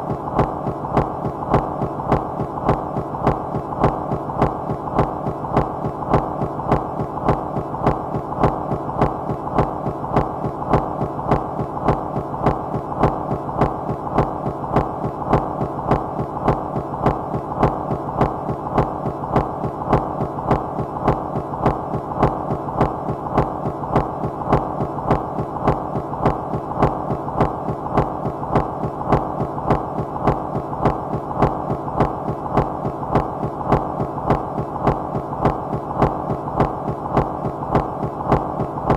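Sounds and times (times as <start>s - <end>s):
bed of hum and noise: 0.0s - 38.9s
fine ticks: 0.0s - 38.9s.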